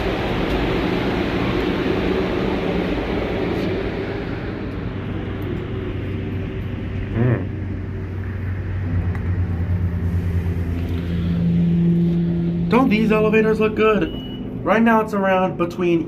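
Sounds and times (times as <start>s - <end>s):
low rumble and hum: 0.0s - 16.0s.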